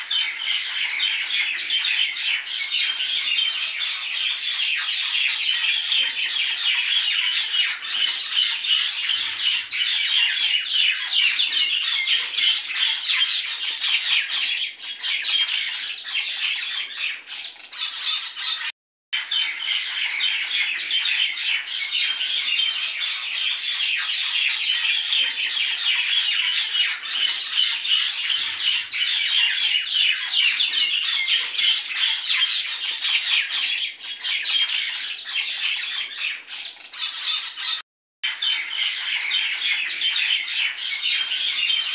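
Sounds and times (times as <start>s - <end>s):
birds chirping and squawking: 0.0s - 41.9s.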